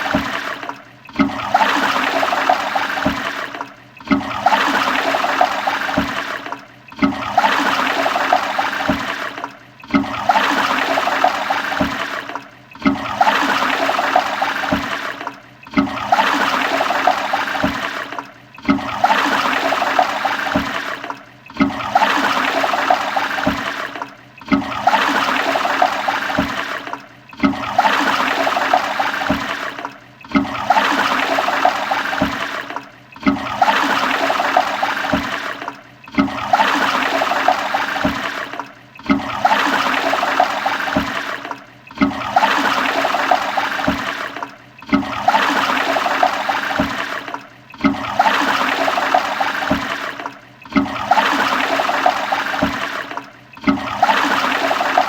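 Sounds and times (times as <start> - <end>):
toilet flushing: 0.0 - 55.0.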